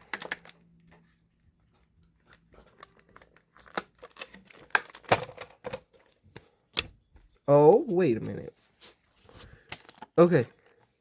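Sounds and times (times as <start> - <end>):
packaging clicks and rustles: 0.0 - 1.1, 1.7 - 11.0.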